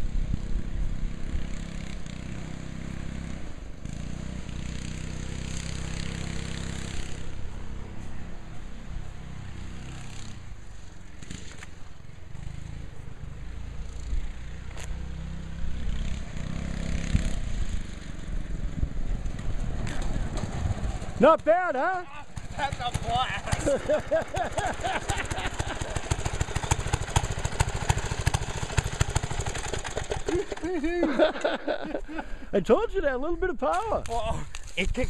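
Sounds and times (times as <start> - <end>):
go-kart engine revving: 0.0 - 32.0.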